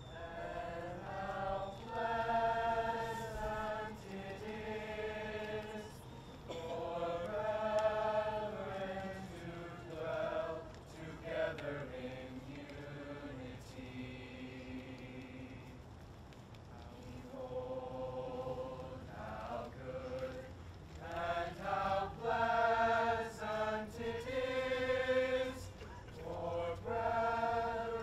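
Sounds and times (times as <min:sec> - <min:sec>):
choir singing: 0:00.0 - 0:15.7, 0:17.0 - 0:28.0.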